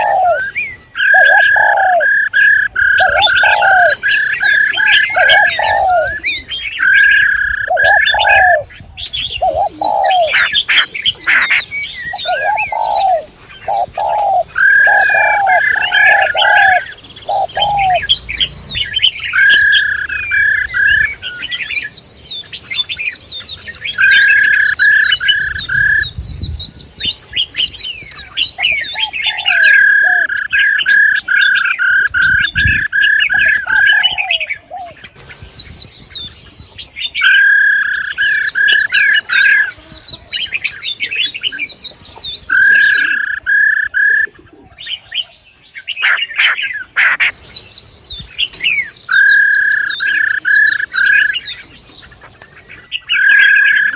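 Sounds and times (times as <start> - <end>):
songbirds chirping and twittering: 0.0 - 53.9
whistled bird notes: 0.0 - 53.9.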